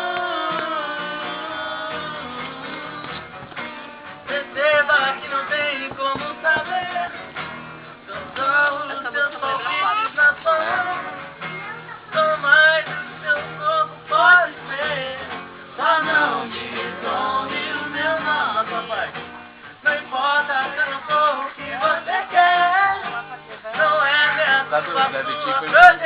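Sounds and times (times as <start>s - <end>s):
man singing: 0.0s - 7.4s, 8.0s - 11.3s, 12.0s - 19.2s, 19.8s - 26.0s
acoustic guitar: 0.0s - 26.0s.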